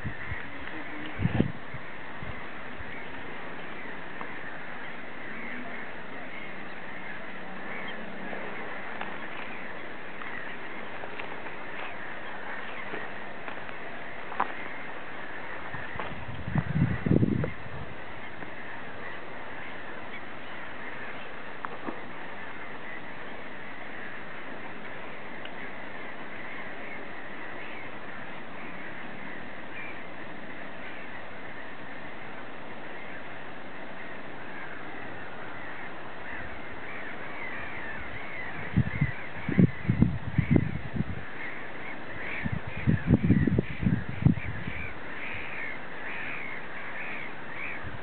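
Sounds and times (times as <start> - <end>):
faint bird calls: 0.0 - 48.0
outdoor background noise: 0.0 - 48.0.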